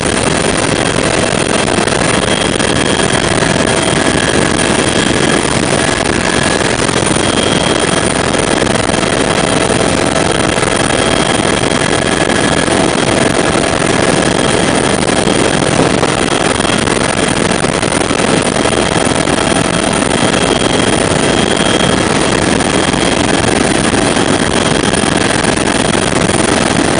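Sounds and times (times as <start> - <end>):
faint steady whines: 0.0 - 26.9
helicopter cabin noise: 0.0 - 26.9.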